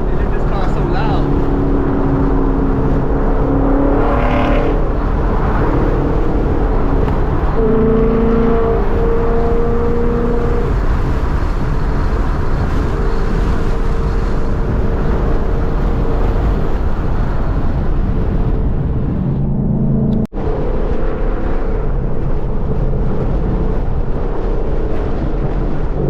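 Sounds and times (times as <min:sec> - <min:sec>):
car engine cruising: 0:00.0 - 0:26.0
road noise: 0:00.0 - 0:26.0.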